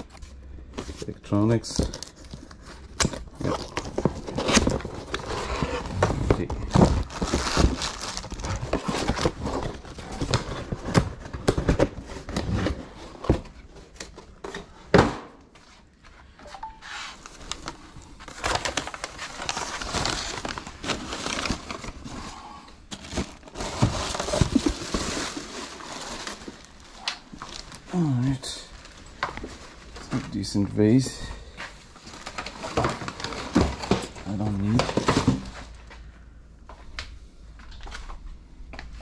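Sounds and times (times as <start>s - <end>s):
items crinkling and rustling: 0.0s - 39.0s.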